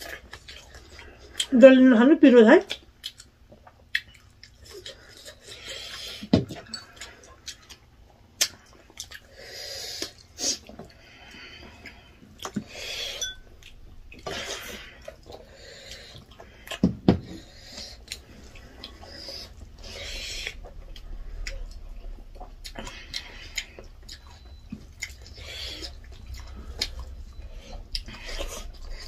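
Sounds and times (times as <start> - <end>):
chewing and lip smacks: 0.0 - 1.6, 2.6 - 29.0.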